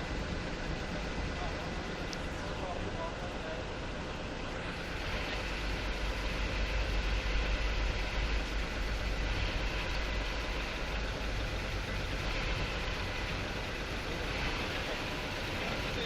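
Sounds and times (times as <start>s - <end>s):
automatic car wash running: 0.0s - 16.0s.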